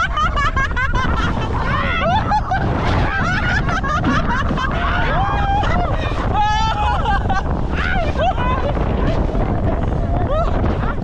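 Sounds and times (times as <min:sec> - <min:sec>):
boat engine rumble: 0:00.0 - 0:11.0
people laughing and shrieking: 0:00.0 - 0:11.0
wind buffeting microphone: 0:00.0 - 0:11.0.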